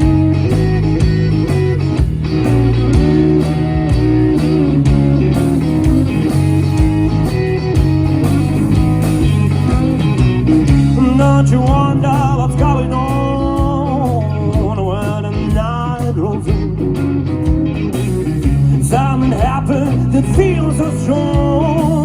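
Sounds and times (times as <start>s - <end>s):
bass guitar: 0.0s - 22.0s
drums: 0.0s - 22.0s
electric guitar: 0.0s - 22.0s.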